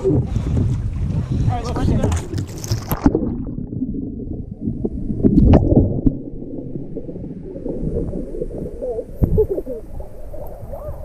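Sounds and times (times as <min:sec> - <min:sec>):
underwater sloshing and gurgling: 0:00.0 - 0:11.0.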